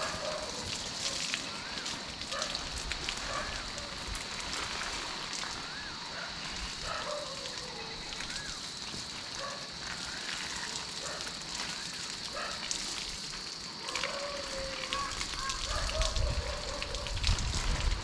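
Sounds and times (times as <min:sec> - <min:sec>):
hose water spraying on shrubs: 0:00.0 - 0:18.0.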